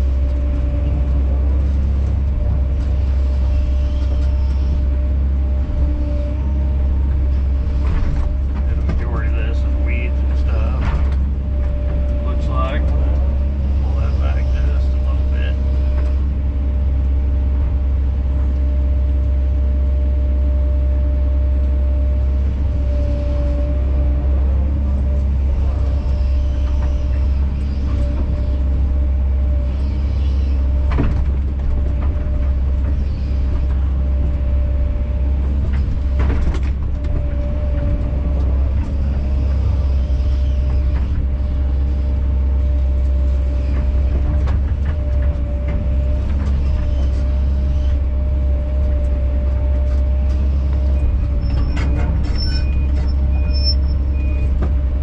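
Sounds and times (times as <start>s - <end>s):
excavator diesel engine running: 0.0s - 55.0s
hydraulics working: 0.0s - 55.0s.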